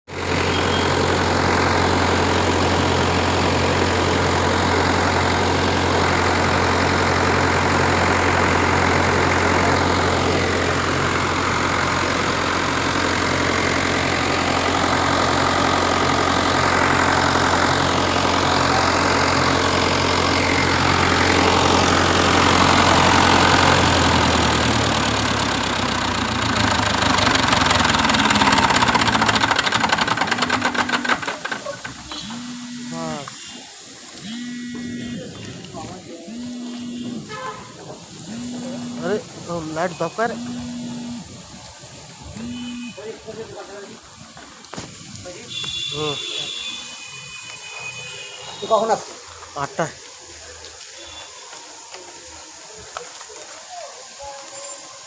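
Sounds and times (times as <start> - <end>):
diesel generator humming: 0.0 - 53.6.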